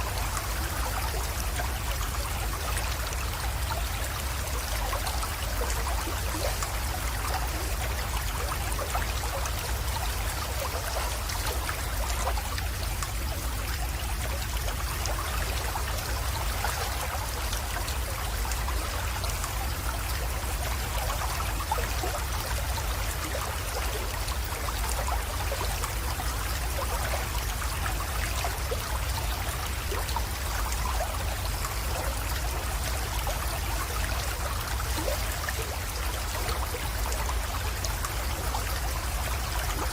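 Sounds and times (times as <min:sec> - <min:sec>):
creek trickling into pond: 0:00.0 - 0:39.9.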